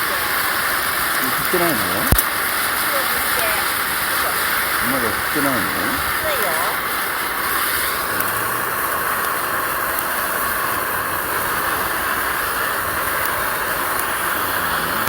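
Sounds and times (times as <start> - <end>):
camp stove hissing: 0.0 - 15.0.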